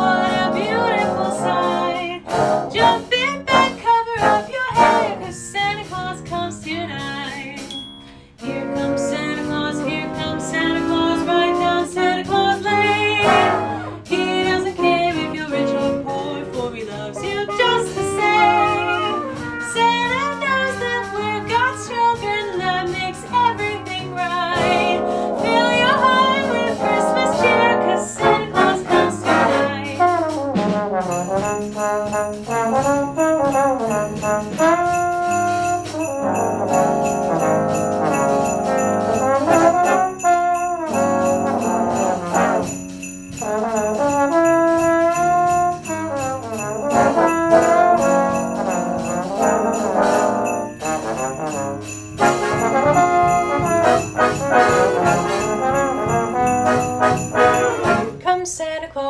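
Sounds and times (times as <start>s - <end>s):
trumpets and trombones playing: 0.0s - 5.4s, 8.4s - 58.2s
sleigh bells jingling: 7.3s - 8.6s, 9.2s - 58.2s.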